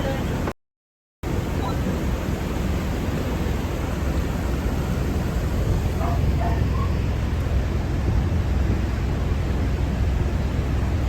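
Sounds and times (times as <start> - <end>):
boat engine droning: 0.0 - 0.5, 1.2 - 11.0.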